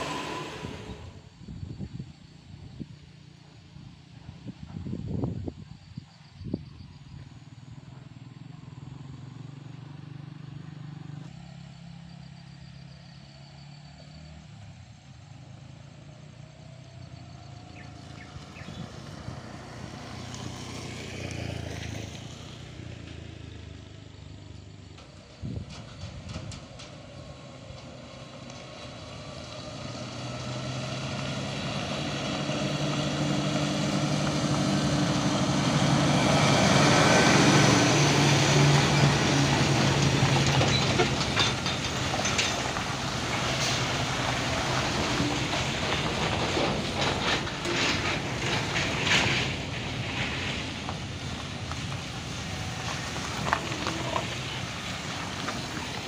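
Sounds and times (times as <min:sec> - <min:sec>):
diesel truck passing: 0:00.0 - 0:04.6, 0:07.3 - 0:56.0
rattles and tyres on gravel: 0:00.0 - 0:56.0.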